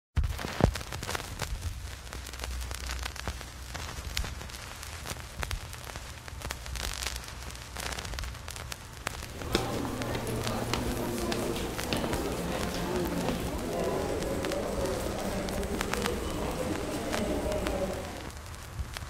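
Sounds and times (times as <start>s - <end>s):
crackling static: 0.2s - 19.0s.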